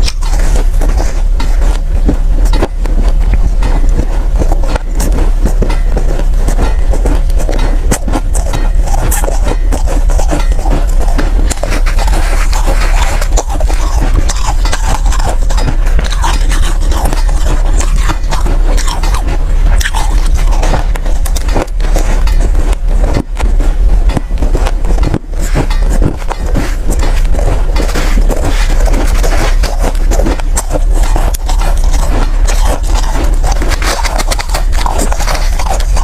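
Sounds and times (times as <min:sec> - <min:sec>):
ice being chewed: 0:00.0 - 0:36.0
steady low rumble: 0:00.0 - 0:36.0.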